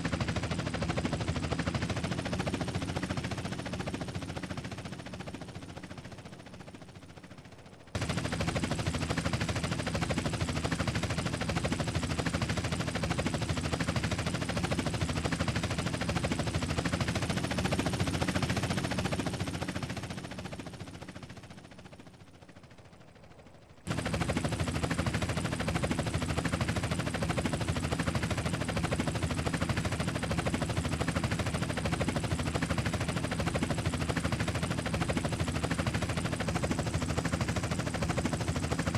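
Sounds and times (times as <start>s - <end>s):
helicopter rotor blades chopping: 0.0s - 38.9s.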